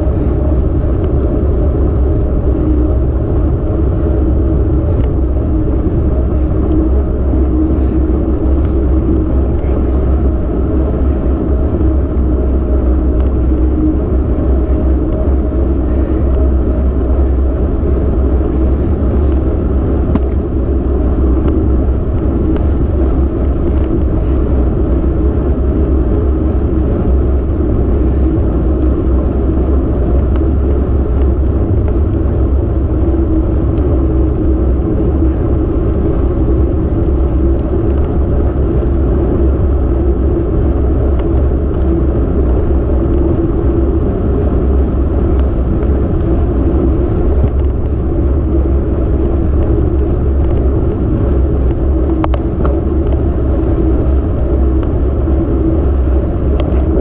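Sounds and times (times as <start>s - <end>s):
road rumble: 0.0s - 57.0s
wind buffeting microphone: 0.0s - 57.0s.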